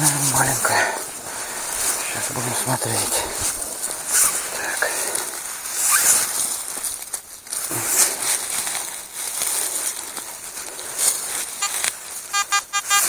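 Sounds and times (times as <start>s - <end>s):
hands rustling soil and dry leaves: 0.0s - 13.0s.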